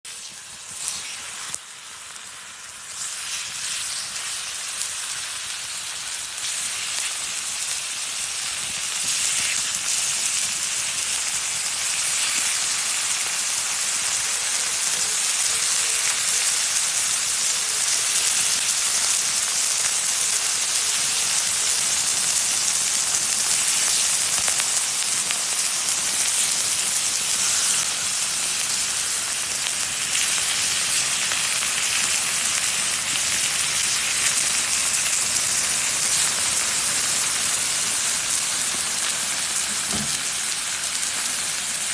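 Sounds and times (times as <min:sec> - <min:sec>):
food sizzling on a grill: 0:00.1 - 0:41.9
sharp crackles: 0:00.1 - 0:41.9.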